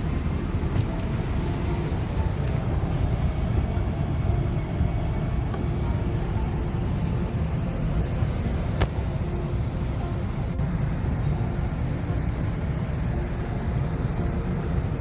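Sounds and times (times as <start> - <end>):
low rumble inside car cabin: 0.0 - 15.0.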